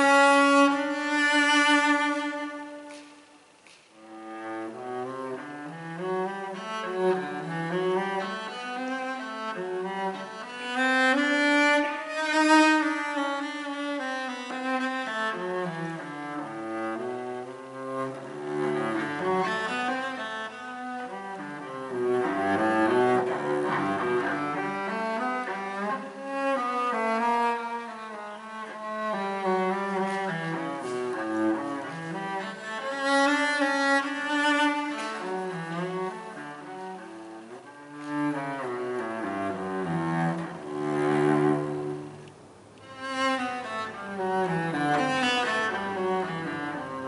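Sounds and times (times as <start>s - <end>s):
bowed cello melody: 0.0s - 47.0s.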